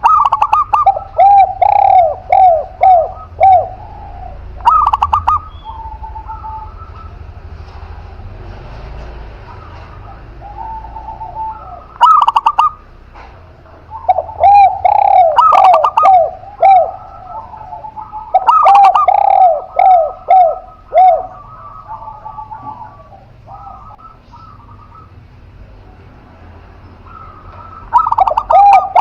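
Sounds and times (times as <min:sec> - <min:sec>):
doves cooing: 0:00.0 - 0:29.0.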